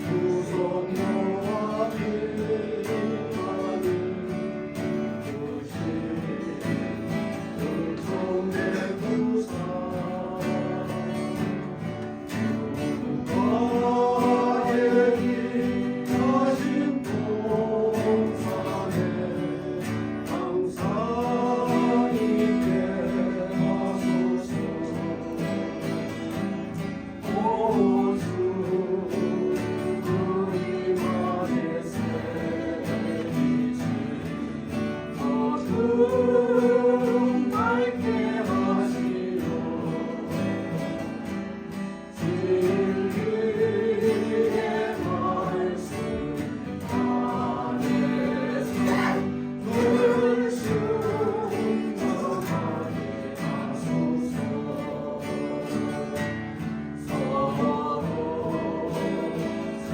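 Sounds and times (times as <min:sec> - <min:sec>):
acoustic guitars: 0:00.0 - 0:59.9
vocal ensemble singing a hymn: 0:00.0 - 0:59.9.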